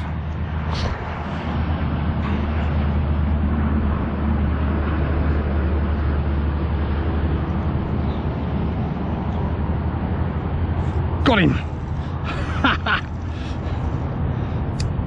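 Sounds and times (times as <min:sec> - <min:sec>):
distant freeway traffic rumble: 0:00.0 - 0:15.0.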